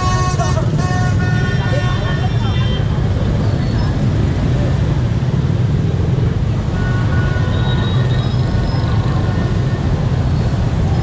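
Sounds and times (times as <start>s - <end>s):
motorbike engines rumbling: 0.0s - 11.0s.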